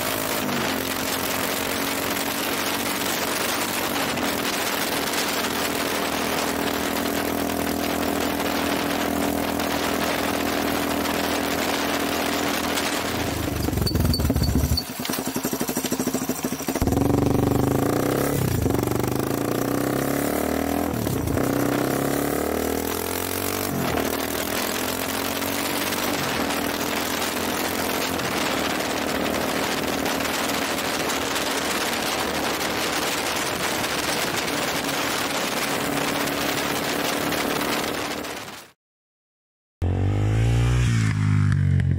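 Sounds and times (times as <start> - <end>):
motorcycle engine revving: 0.0 - 38.4, 39.8 - 41.9.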